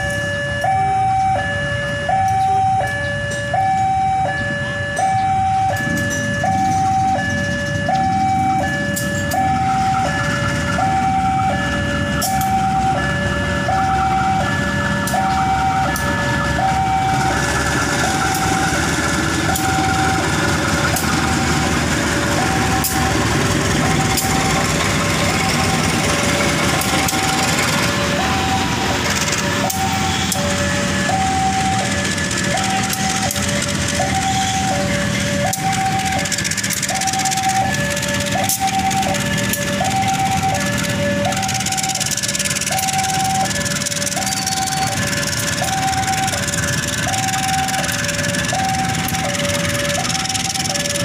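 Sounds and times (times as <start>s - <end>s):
diesel locomotive engine: 0.0s - 51.0s
train wheels rolling: 2.1s - 51.0s.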